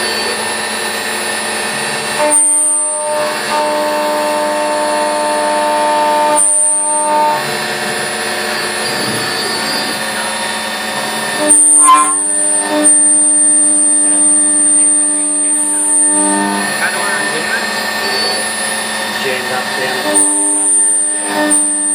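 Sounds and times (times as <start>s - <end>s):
milling machine whine: 0.0s - 21.9s.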